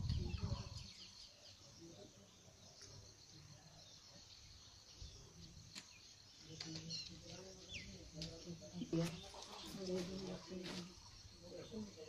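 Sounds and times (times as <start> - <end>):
faint insect drone: 0.0 - 12.0
small birds chirping: 0.0 - 12.0.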